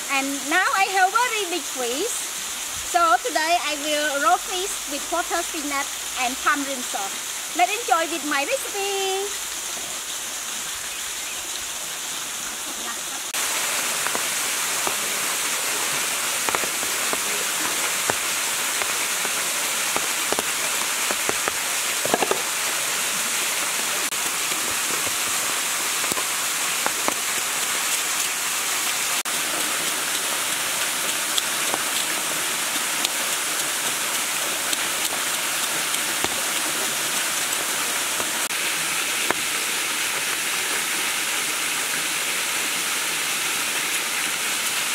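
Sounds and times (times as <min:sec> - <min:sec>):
falling water rushing: 0:00.0 - 0:44.9.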